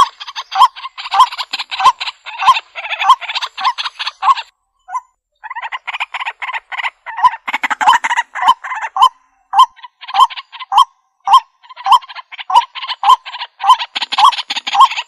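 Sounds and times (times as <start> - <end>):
bird calling: 0.0 - 15.0.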